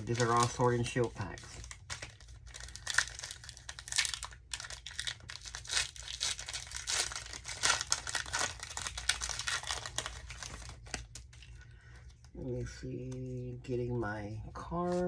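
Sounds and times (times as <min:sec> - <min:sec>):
foil wrapper crinkling and tearing: 0:00.0 - 0:12.3.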